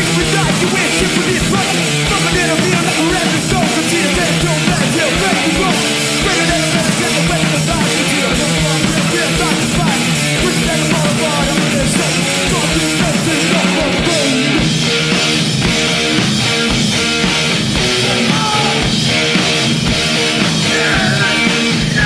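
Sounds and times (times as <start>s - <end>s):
bass guitar: 0.0s - 22.0s
distorted electric guitar: 0.0s - 22.0s
live punk band playing: 0.0s - 22.0s.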